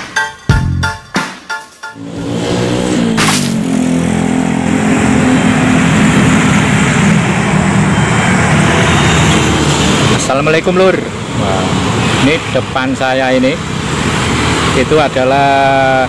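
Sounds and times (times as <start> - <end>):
motorcycle and car engines: 2.0 - 16.0.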